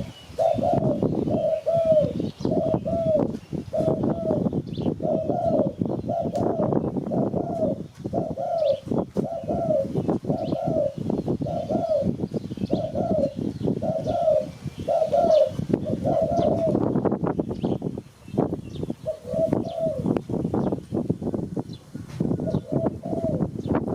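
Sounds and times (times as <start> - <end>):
dove cooing: 0.0 - 17.1, 18.9 - 20.8, 21.8 - 23.9.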